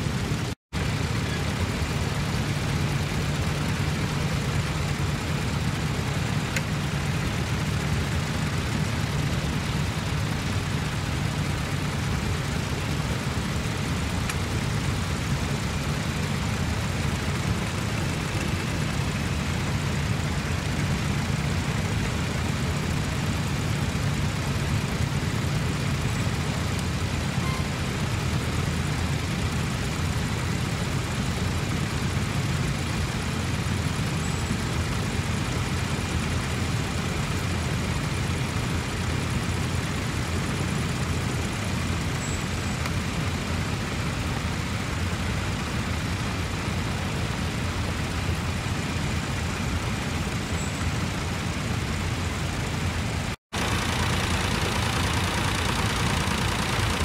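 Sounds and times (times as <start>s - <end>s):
second tractor engine: 0.0s - 57.0s
tractor engine running: 0.0s - 57.0s.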